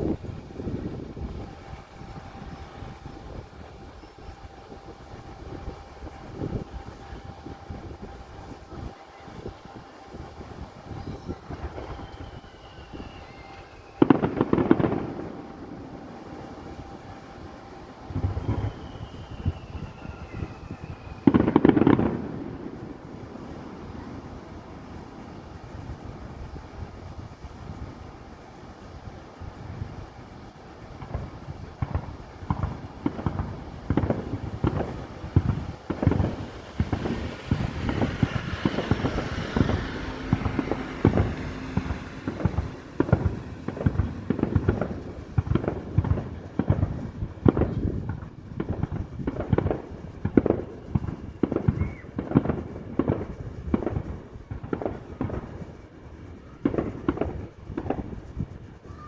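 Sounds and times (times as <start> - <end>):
fireworks crackling: 0.0 - 59.0
fireworks shells booming: 0.0 - 59.0.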